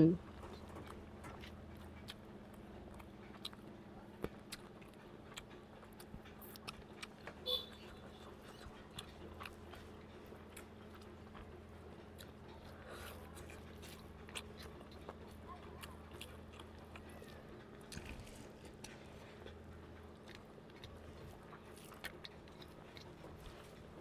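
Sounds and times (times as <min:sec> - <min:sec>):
faint steady hum: 0:00.0 - 0:24.0
person chewing food: 0:00.2 - 0:24.0.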